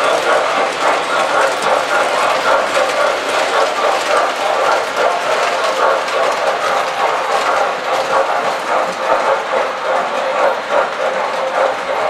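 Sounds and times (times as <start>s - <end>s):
toy train wheels rattling on track: 0.0s - 12.0s.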